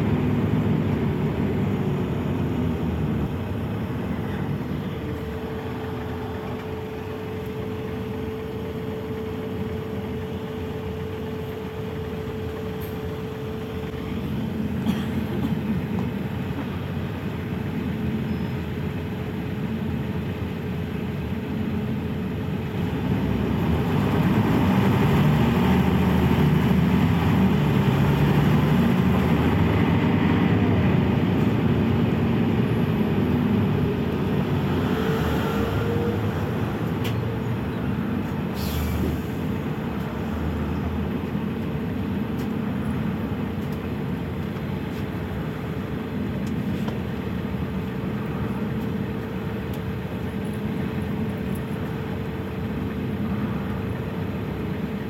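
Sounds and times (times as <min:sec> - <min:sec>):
diesel bus engine: 0:00.0 - 0:55.0.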